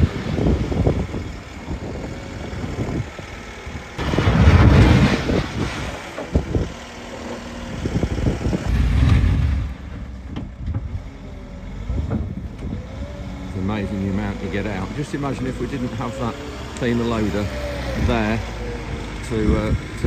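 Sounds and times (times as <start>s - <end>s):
telehandler engine under load: 0.0s - 20.0s.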